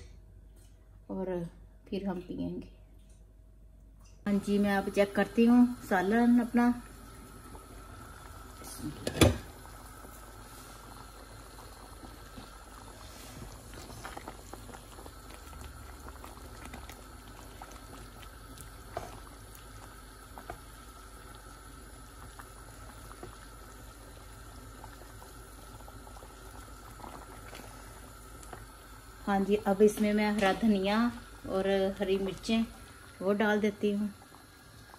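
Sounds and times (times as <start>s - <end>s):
curry bubbling in a frying pan: 4.4s - 34.9s.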